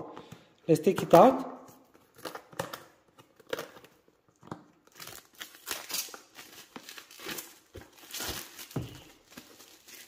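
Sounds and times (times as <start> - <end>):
plastic shrink wrap crinkling: 1.2 - 10.0.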